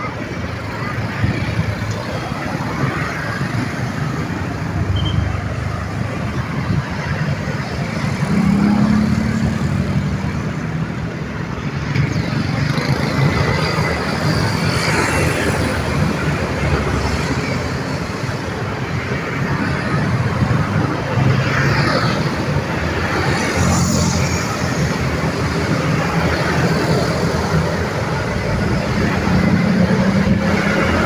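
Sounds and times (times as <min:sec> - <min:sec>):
heavy vehicle engine hum: 0:00.0 - 0:31.0
road traffic passing: 0:00.0 - 0:31.0.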